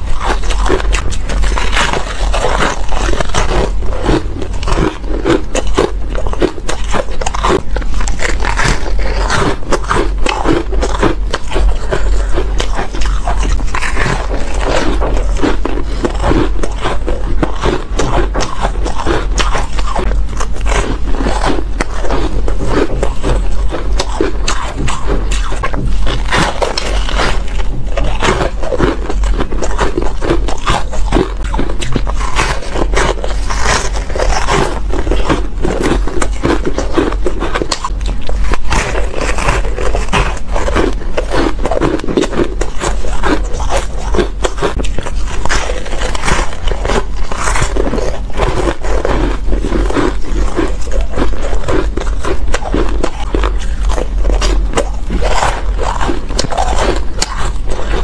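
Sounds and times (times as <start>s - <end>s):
biting and chewing crunchy ice: 0.0s - 58.0s.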